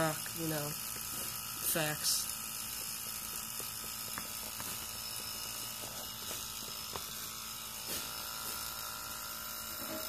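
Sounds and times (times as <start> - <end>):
electric pump humming: 0.0 - 10.0.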